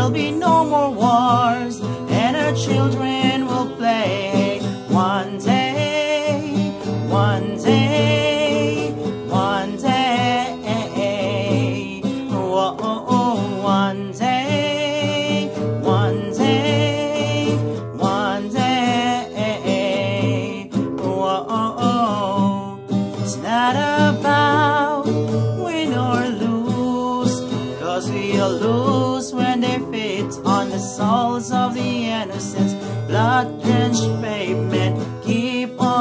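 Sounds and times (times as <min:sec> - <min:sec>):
man singing with vibrato: 0:00.0 - 0:36.0
strummed acoustic guitar: 0:00.0 - 0:36.0.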